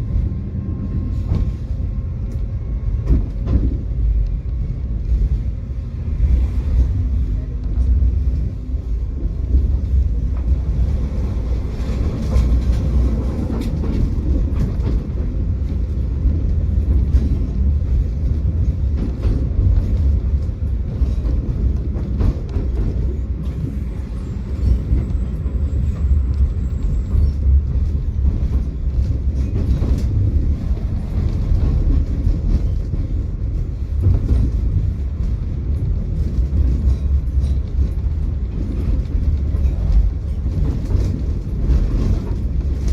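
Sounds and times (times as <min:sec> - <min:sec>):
tram rumbling on rails: 0:00.0 - 0:42.9.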